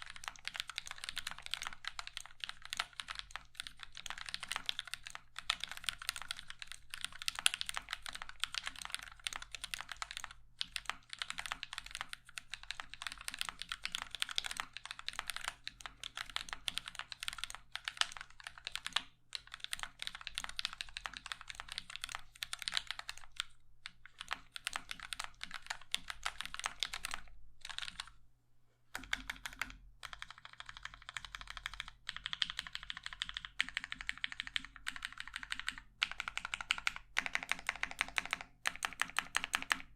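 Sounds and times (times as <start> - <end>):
fast typing on mechanical keyboard: 0.0 - 28.1, 29.0 - 39.9.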